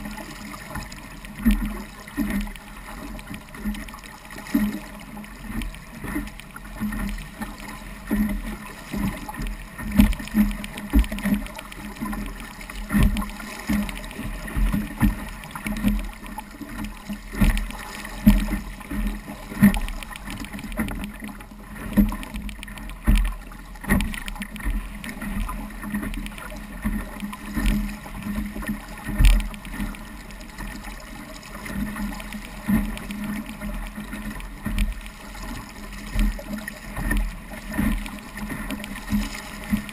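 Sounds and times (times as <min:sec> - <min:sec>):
boat hull slapping waves: 0:00.0 - 0:39.9
water rushing and splashing: 0:00.0 - 0:39.9.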